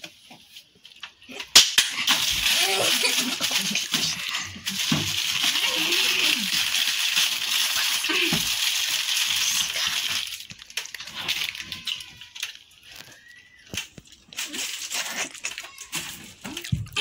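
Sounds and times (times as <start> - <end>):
plastic wrappers crinkling: 0.2 - 17.0.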